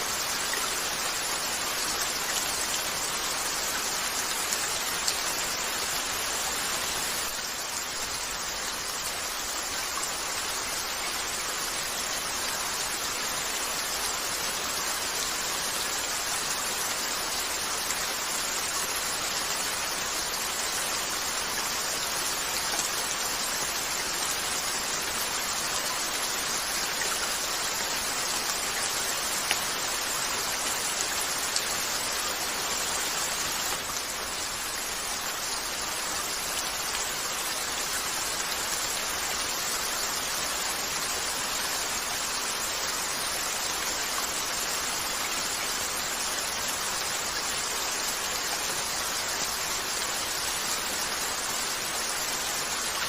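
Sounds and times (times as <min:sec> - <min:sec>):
rain on a window: 0:00.0 - 0:53.0.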